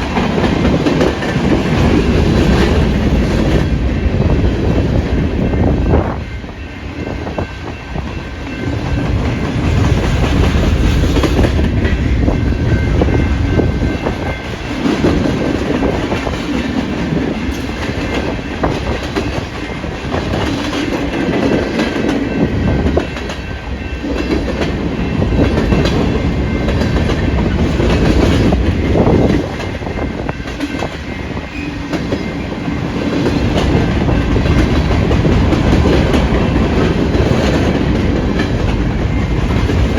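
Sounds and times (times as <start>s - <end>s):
freight train rumbling past: 0.0s - 39.9s
wind buffeting microphone: 0.0s - 39.9s.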